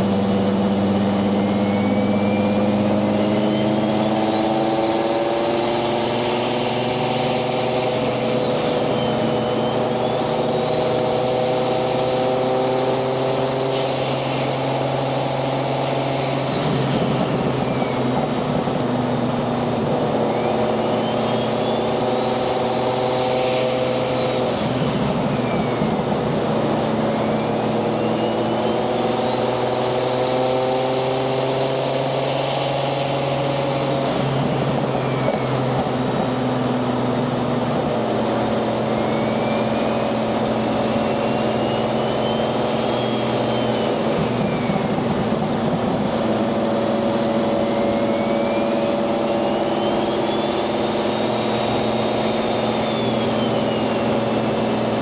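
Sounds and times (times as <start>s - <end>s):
car engine cruising: 0.0s - 55.0s
turbo whistle: 0.0s - 55.0s.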